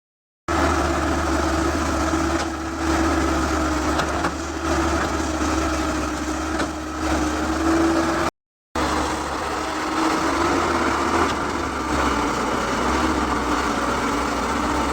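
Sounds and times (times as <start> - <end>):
excavator engine whining: 0.5 - 14.9.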